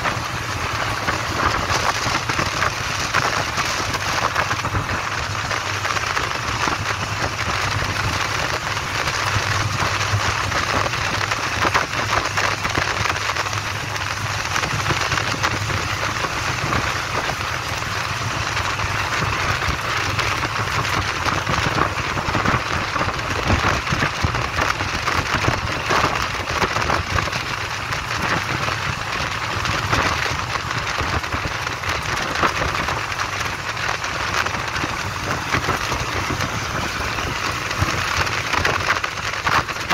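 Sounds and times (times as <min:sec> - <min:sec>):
bus wind and road noise: 0:00.0 - 0:39.9.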